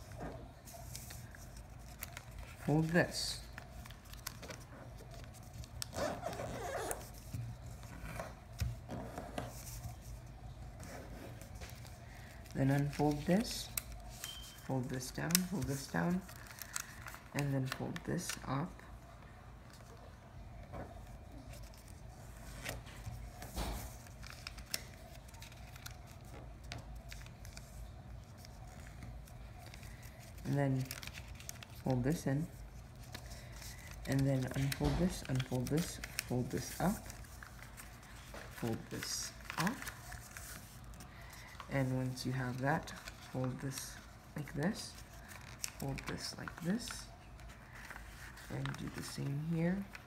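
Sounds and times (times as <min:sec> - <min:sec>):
paper rustling and creasing: 0:00.0 - 0:50.0.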